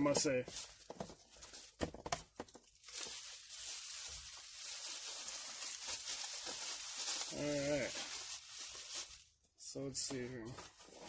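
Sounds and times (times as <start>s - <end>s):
packaging crinkling and rustling: 0.0s - 9.3s.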